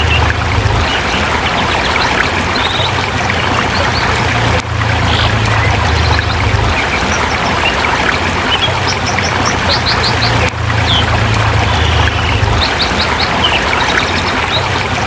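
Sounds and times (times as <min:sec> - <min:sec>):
low hum: 0:00.0 - 0:15.0
river rushing over rocks: 0:00.0 - 0:15.0
small birds chirping: 0:00.0 - 0:15.0.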